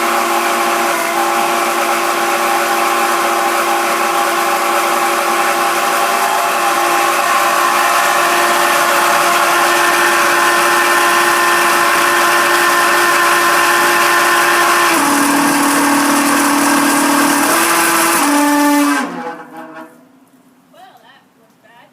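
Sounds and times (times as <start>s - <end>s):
air conditioner motor whining: 0.0s - 20.7s.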